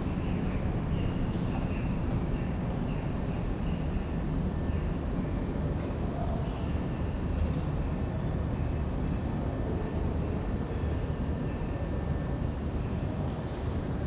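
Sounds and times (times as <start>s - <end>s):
low rumble of background noise: 0.0s - 14.0s.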